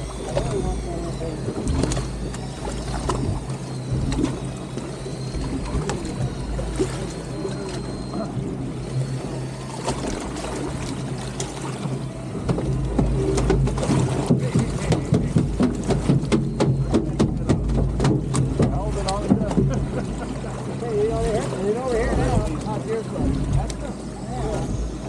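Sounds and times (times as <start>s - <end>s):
boat engine humming: 0.0s - 25.0s
water noise: 0.0s - 25.0s
wind: 0.0s - 25.0s.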